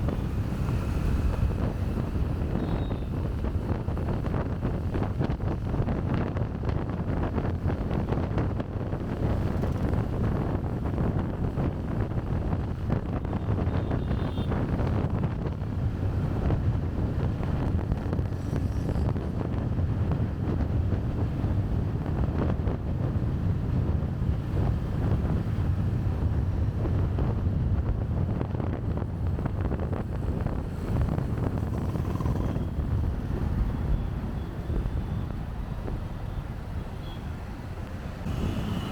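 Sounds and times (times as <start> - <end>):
traffic: 0.0 - 38.9
wind buffeting microphone: 0.0 - 38.9.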